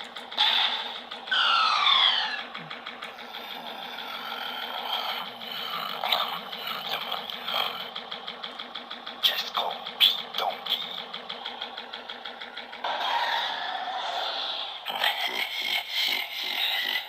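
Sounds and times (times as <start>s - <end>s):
engine-like lightsaber hum: 0.0s - 17.0s.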